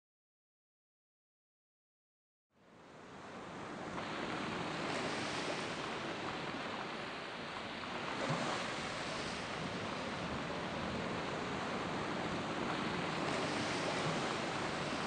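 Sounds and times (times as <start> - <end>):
ocean surf washing on shore: 2.7 - 15.0.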